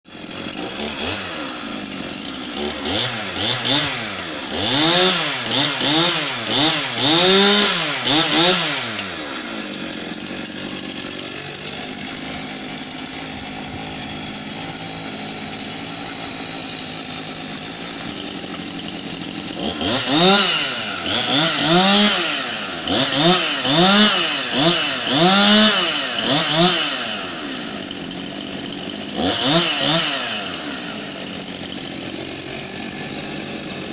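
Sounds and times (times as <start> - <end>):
chainsaw engines idling: 0.1 - 33.9
chainsaw engines revving: 0.1 - 33.9.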